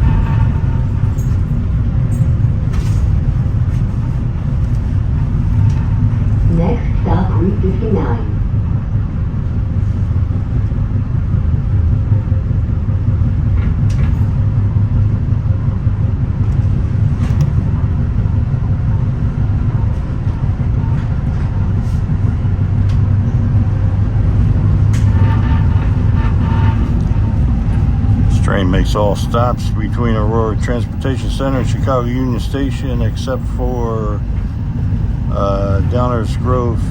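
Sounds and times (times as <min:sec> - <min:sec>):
train rumbling: 0:00.0 - 0:36.9.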